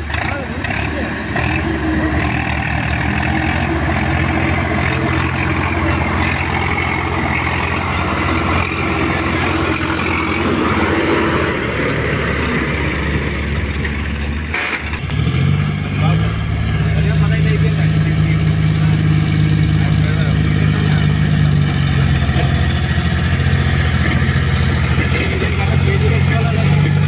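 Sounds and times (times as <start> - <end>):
engine drone: 0.0 - 27.0
tractor engine running: 0.0 - 27.0.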